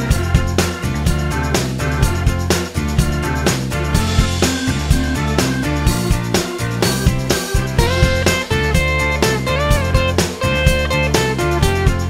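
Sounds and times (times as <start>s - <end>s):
music with drum beat and keyboard: 0.0s - 12.0s.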